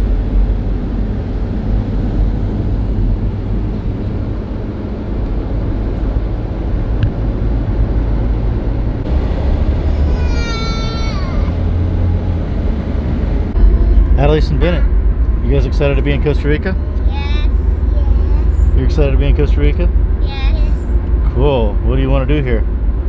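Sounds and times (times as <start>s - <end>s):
car road noise: 0.0s - 23.0s.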